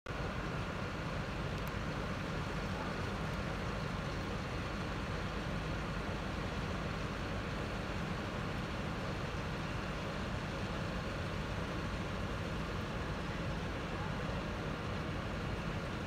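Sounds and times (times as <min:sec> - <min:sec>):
diesel engine running: 0:00.1 - 0:16.0.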